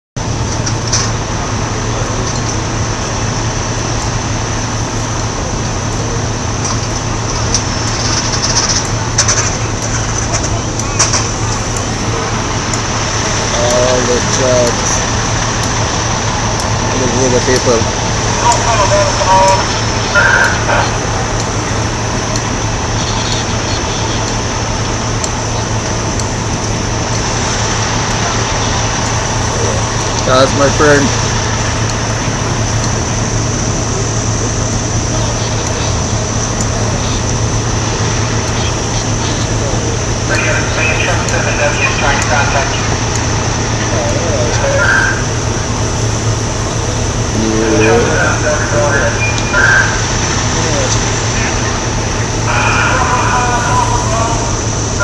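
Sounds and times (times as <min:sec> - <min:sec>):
fire engine engine running: 0:00.2 - 0:55.0.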